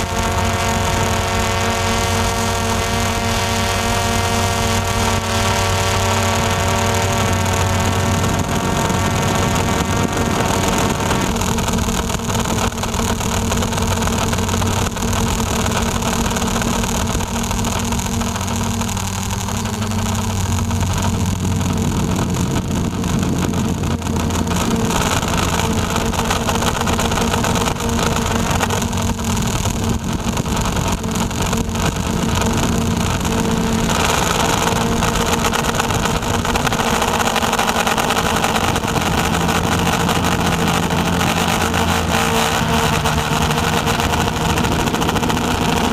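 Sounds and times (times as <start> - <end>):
drone propellers whirring: 0.0 - 45.9.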